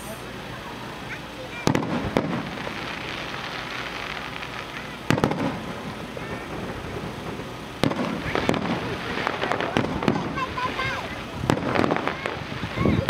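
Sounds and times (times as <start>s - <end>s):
crackling hiss of sparks: 0.0s - 13.0s
firework bangs: 0.1s - 13.0s.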